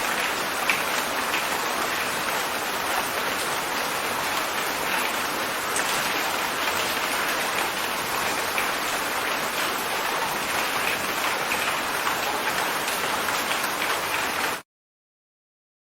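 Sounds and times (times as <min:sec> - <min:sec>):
heavy rain falling: 0:00.0 - 0:14.6.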